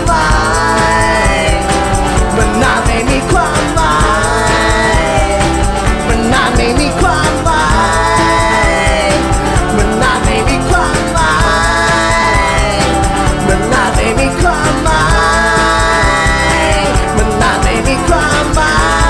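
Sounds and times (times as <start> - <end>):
acoustic guitars strumming: 0.0 - 19.0
man singing: 0.0 - 19.0.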